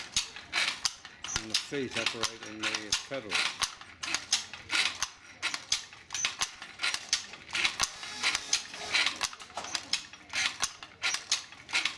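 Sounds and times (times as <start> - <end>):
handloom wooden clacking: 0.0 - 11.9.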